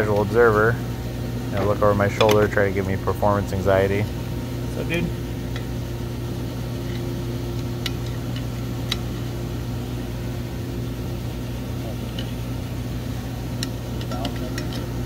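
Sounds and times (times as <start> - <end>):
electric hum of machinery: 0.0 - 15.0.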